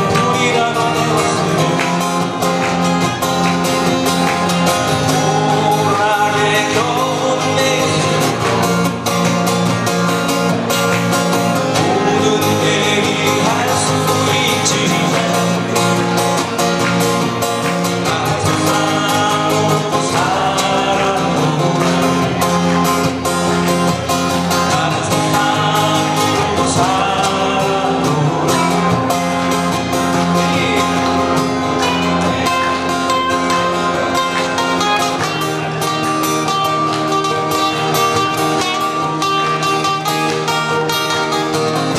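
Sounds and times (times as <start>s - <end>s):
acoustic guitars playing: 0.0s - 41.9s.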